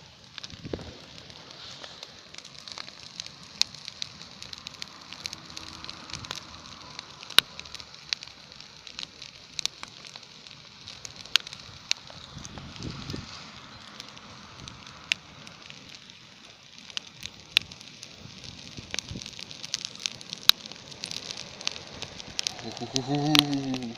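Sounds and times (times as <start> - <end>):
bonfire crackling and popping: 0.0 - 23.9
hiss of burning: 0.0 - 23.9.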